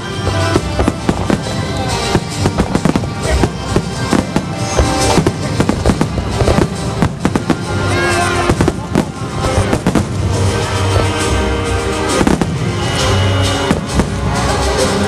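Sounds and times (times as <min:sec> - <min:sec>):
fireworks bursting with sharp bangs: 0:00.0 - 0:15.0
music playing: 0:00.0 - 0:15.0.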